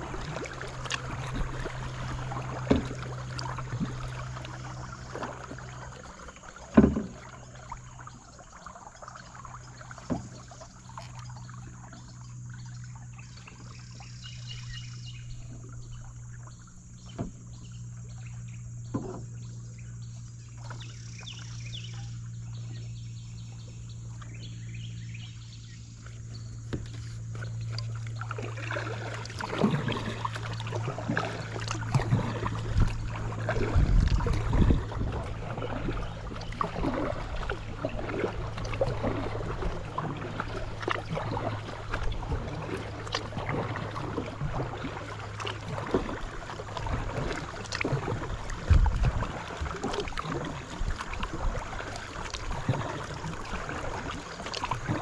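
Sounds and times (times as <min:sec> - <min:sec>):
paddle splashing in water: 0:00.0 - 0:55.0
steady low hum: 0:00.0 - 0:55.0.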